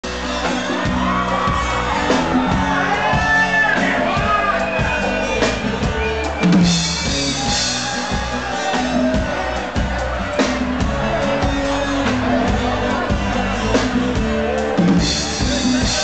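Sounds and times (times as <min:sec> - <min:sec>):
crowd shouting and singing along: 0:00.0 - 0:16.0
live band playing: 0:00.0 - 0:16.0.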